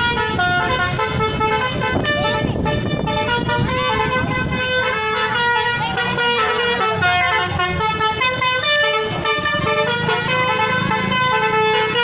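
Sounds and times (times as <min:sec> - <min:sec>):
musical bus air horns: 0:00.0 - 0:12.0.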